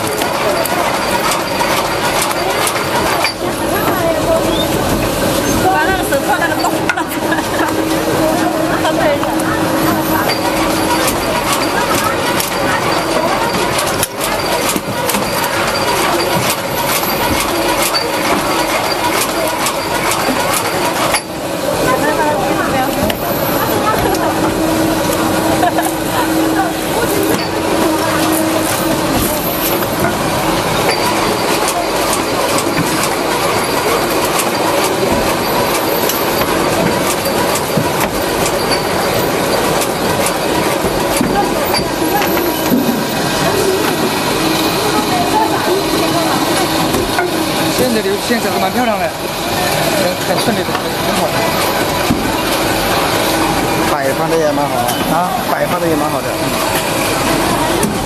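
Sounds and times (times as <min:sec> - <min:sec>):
industrial machinery humming: 0:00.0 - 0:58.0
machinery whining tones: 0:00.0 - 0:58.0
sharp clicks and clacks: 0:00.0 - 0:58.0.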